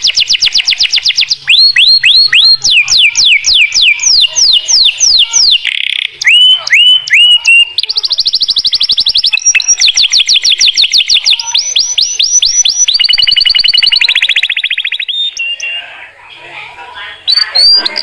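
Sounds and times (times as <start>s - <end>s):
canary singing: 0.0s - 16.3s, 17.0s - 18.0s.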